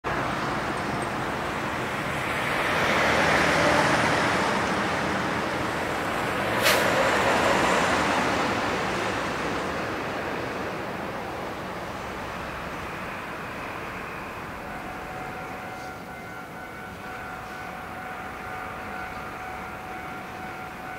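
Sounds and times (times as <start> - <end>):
diesel locomotive engine humming: 0.0 - 20.9
road traffic rushing: 0.0 - 20.9.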